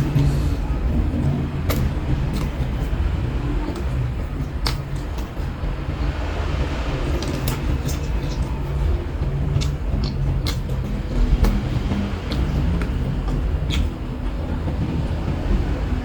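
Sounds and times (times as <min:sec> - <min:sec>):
crisp chewing: 0:00.0 - 0:15.0
low rumble: 0:00.0 - 0:16.0.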